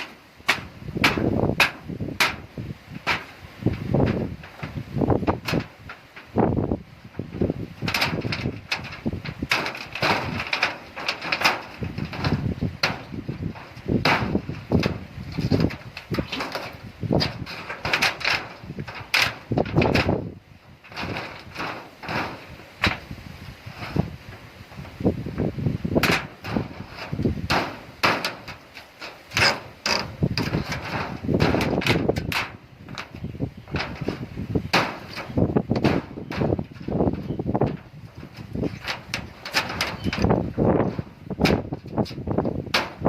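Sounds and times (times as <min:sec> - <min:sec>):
wood knocking and clattering: 0:00.0 - 0:23.2, 0:23.8 - 0:43.0.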